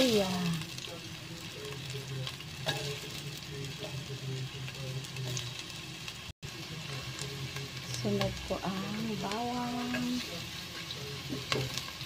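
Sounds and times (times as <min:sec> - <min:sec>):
ginger sizzling in oil: 0:00.0 - 0:12.0.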